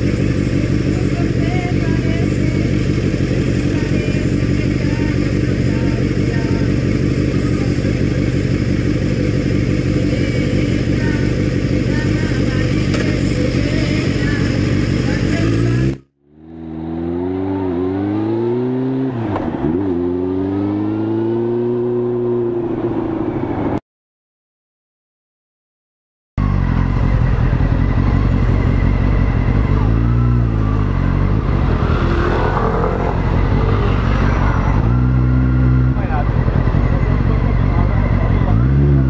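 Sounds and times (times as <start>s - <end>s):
motor scooter engine: 0.0s - 22.3s, 26.4s - 39.0s
street noise: 0.0s - 23.8s, 26.4s - 39.0s
wind: 0.0s - 23.8s, 26.4s - 39.0s.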